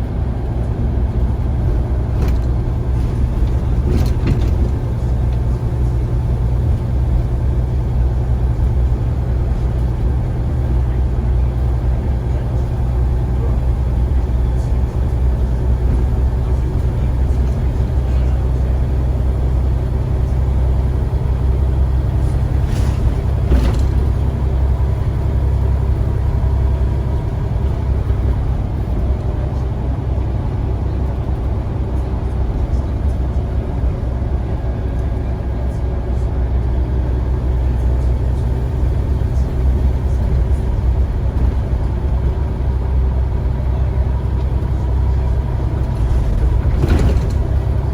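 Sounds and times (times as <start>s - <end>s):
bus engine droning: 0.0s - 47.9s.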